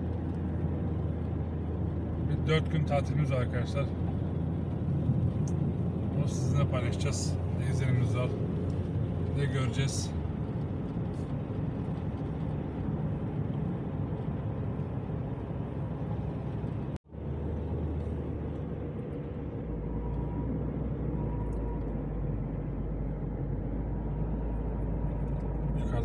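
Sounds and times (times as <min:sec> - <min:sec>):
car engine driving: 0:00.0 - 0:26.0
tyre noise on road: 0:00.0 - 0:26.0.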